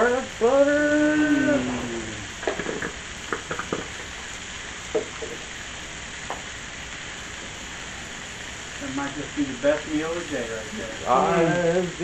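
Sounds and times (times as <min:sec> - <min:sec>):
food sizzling on a griddle: 0:00.0 - 0:12.0
sharp crackles: 0:00.0 - 0:12.0.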